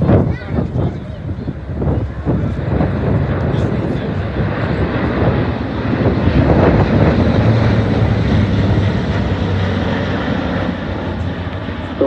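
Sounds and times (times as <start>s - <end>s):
aircraft engines and propellers droning: 0.0s - 12.0s.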